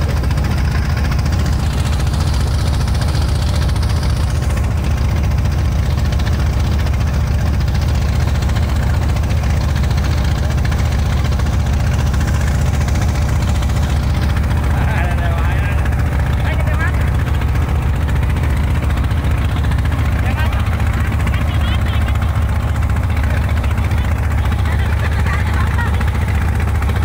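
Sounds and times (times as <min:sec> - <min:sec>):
boat engine droning: 0:00.0 - 0:27.0
water rushing along hull: 0:00.0 - 0:27.0.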